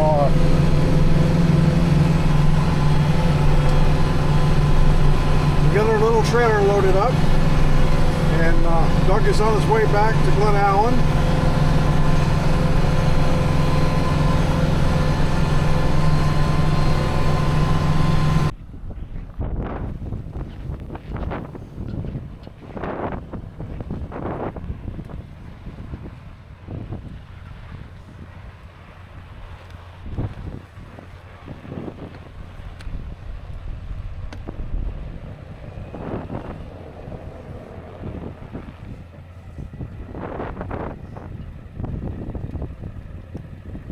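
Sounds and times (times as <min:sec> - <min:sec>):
vehicle engine humming: 0:00.0 - 0:43.9
wind buffeting microphone: 0:00.0 - 0:43.9.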